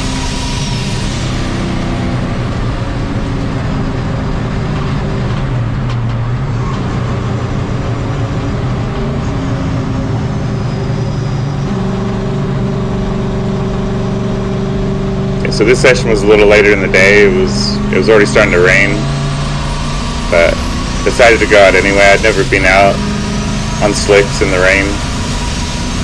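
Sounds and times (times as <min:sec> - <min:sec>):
race truck engine revving: 0:00.0 - 0:26.0.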